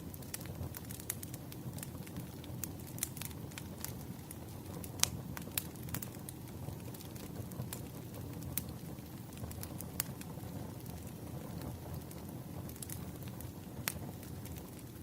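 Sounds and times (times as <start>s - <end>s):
firewood crackling and popping: 0.0s - 15.0s
low rumble of flame: 0.0s - 15.0s.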